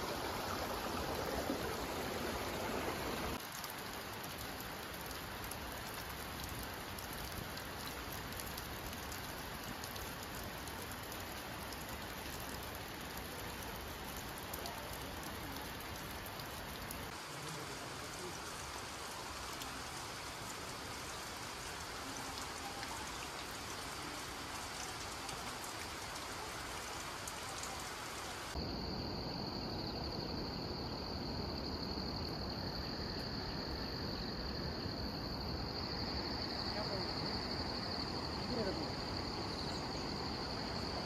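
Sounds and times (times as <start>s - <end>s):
rain hissing: 0.0s - 28.8s, 36.0s - 41.0s
insects droning: 0.0s - 41.0s.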